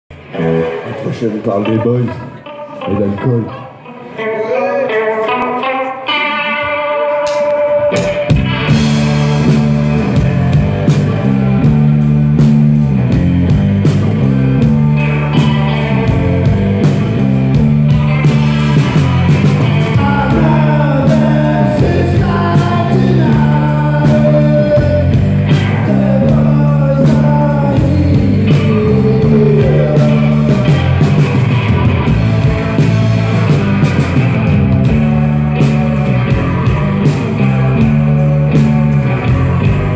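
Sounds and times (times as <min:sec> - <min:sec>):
drums: 0:00.1 - 0:39.9
electric guitar: 0:00.1 - 0:39.9
rock band playing: 0:00.1 - 0:39.9.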